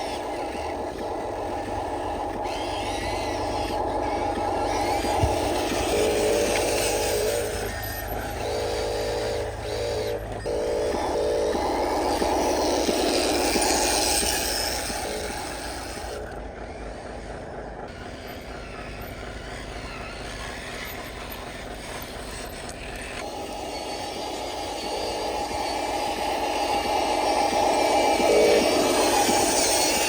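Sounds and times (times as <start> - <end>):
model truck grainy rumble: 0.0 - 30.0.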